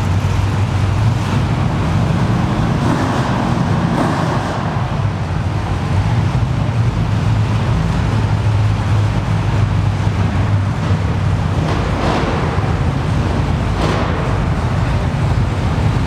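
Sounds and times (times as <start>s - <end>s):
vehicle engine idling loud and low: 0.0s - 16.0s.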